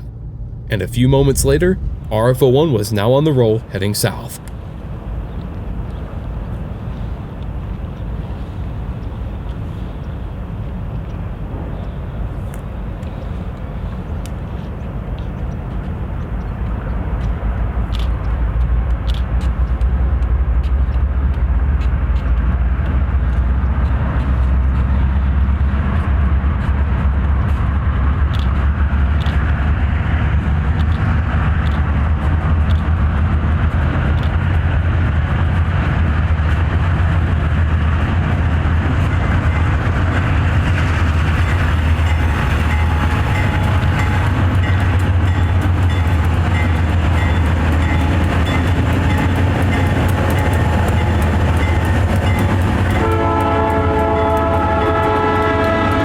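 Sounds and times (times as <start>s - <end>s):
locomotive engine drone: 0.0s - 56.0s
wheels rumbling on rail: 0.0s - 56.0s.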